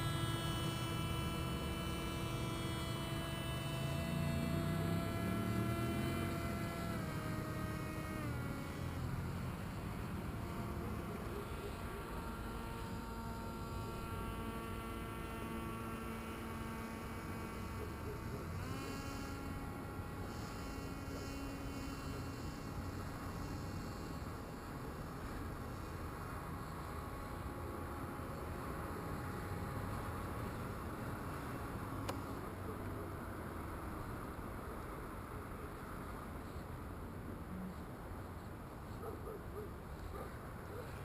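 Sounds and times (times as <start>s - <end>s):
electric motor and propeller whining: 0.0s - 36.7s.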